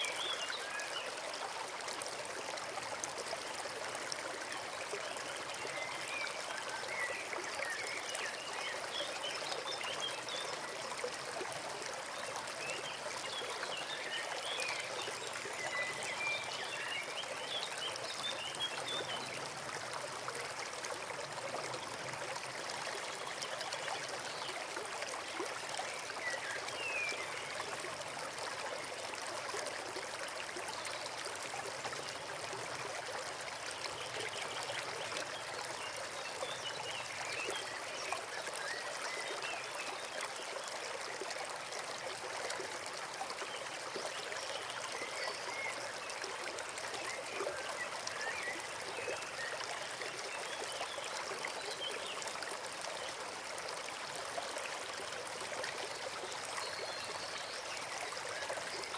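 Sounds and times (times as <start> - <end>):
stream babbling: 0.0 - 58.9.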